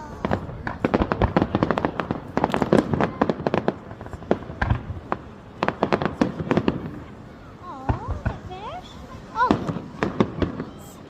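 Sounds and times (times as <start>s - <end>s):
fireworks bangs: 0.0s - 11.0s
fireworks crackling and popping: 0.0s - 11.0s.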